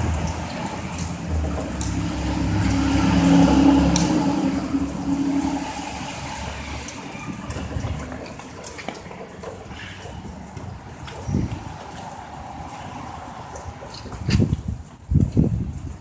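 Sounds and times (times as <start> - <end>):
vehicle passing on wet road: 0.0 - 16.0.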